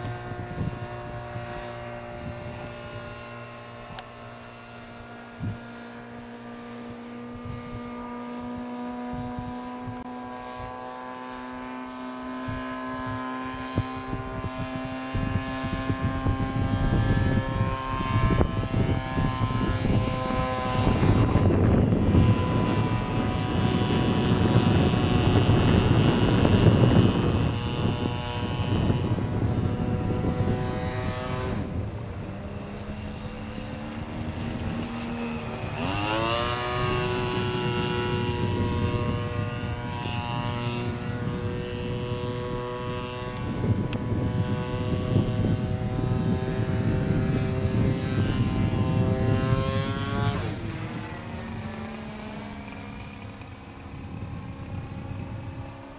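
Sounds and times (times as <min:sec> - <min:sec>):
model airplane engine: 0:00.0 - 0:55.9.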